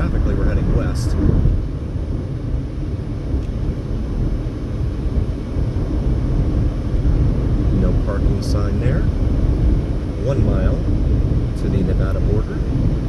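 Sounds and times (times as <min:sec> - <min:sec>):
car road noise from inside cabin: 0:00.0 - 0:13.0.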